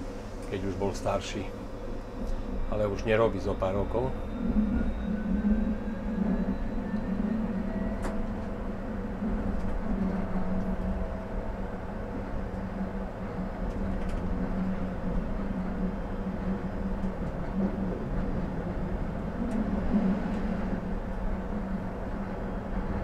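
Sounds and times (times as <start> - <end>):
tram rolling rumble and hum: 0.0 - 23.0.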